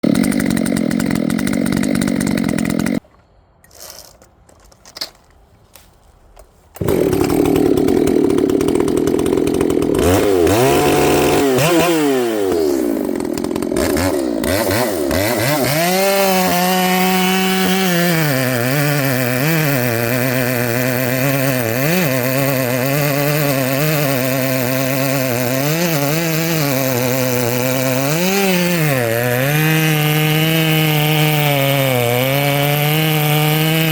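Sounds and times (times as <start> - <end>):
chainsaw cutting log: 0.0 - 3.0, 6.8 - 33.9.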